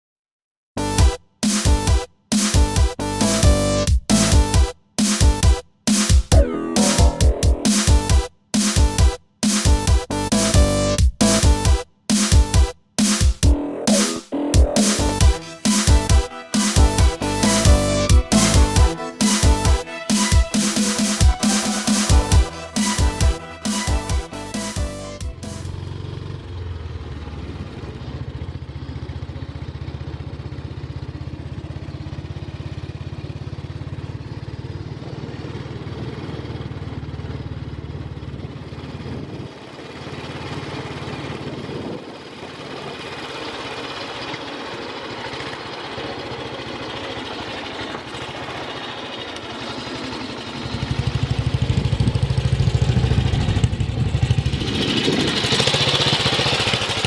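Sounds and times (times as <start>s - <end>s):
motorcycle engine running: 0.8s - 57.0s.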